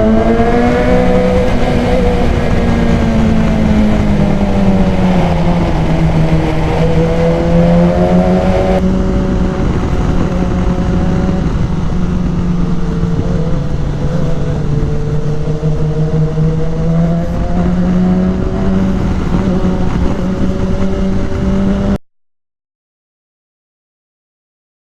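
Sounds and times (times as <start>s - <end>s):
motorcycle engine running: 0.0s - 22.0s
wind rush: 0.0s - 22.0s.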